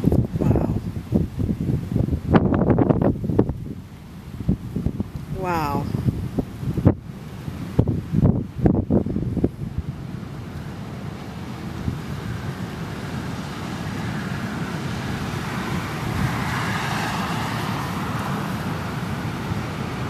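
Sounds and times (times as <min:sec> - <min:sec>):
storm surf breaking with wind: 0:00.0 - 0:20.0.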